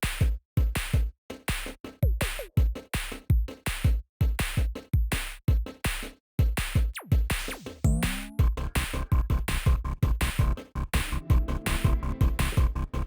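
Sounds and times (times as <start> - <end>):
electronic drum machine beat: 0.0 - 13.0.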